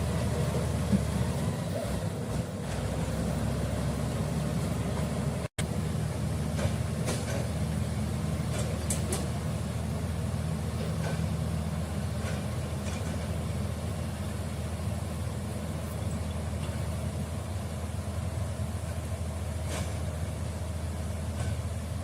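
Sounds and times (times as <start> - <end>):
diesel engine idling low: 0.0 - 22.0.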